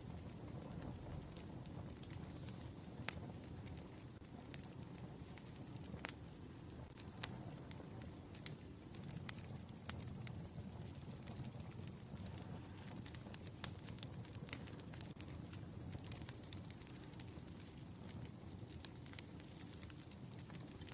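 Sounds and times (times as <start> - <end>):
wood fire crackling and popping: 0.0 - 20.9.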